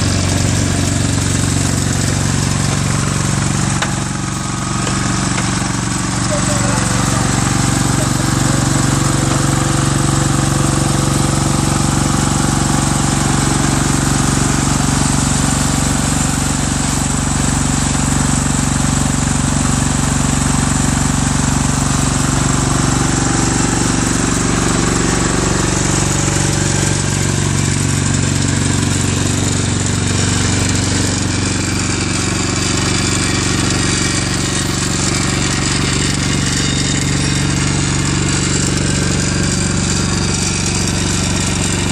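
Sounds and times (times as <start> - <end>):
asphalt paver engine drone: 0.0 - 41.9.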